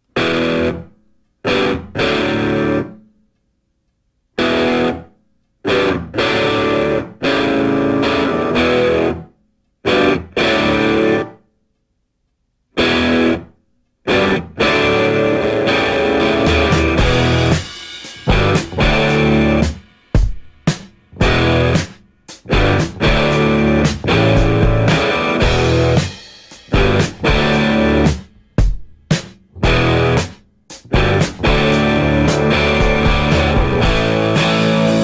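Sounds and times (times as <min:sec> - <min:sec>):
distorted electric guitar chords: 0:00.1 - 0:03.0, 0:04.4 - 0:11.4, 0:12.8 - 0:28.8, 0:29.5 - 0:35.0.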